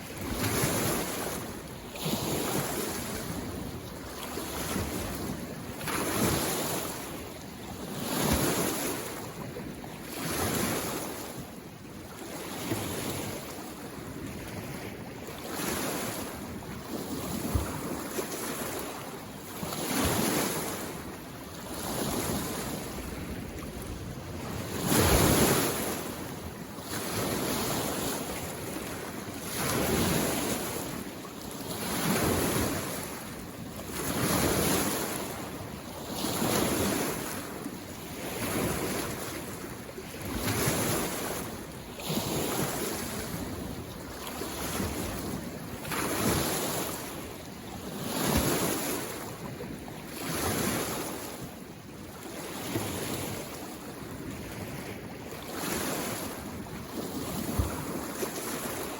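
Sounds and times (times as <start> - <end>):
small waves washing onto shore: 0.0 - 58.9.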